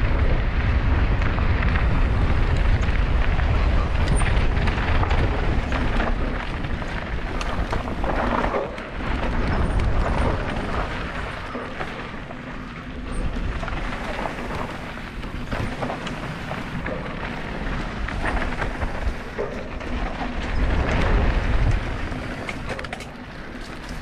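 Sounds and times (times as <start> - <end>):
bike rattling over bumps: 0.0 - 24.0
bike tyres crackling over dirt: 0.0 - 24.0
wind rumbling on microphone: 0.0 - 24.0.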